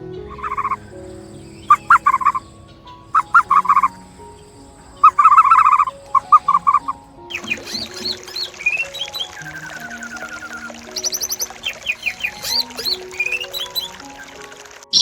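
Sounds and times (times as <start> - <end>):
animal chirping calls: 0.3 - 15.0.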